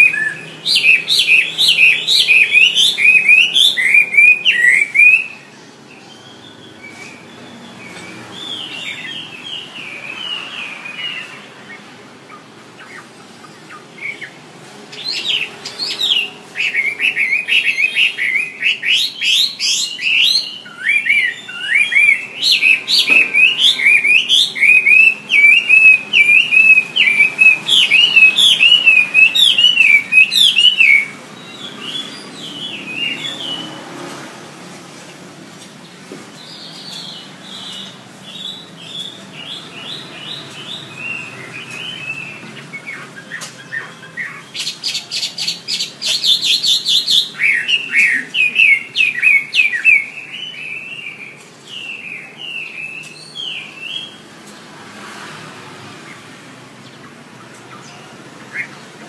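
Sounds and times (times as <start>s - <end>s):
bird singing whistled notes: 0.0s - 11.8s, 13.7s - 33.7s, 36.4s - 54.2s.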